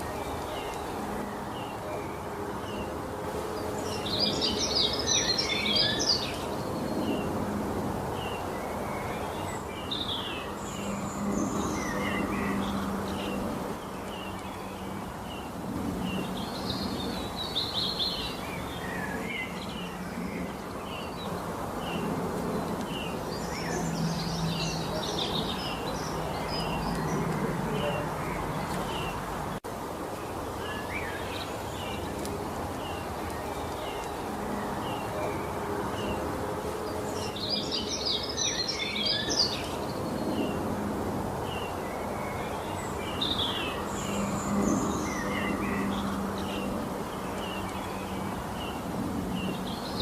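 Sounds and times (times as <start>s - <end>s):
songbirds chirping and singing: 0.0s - 50.0s.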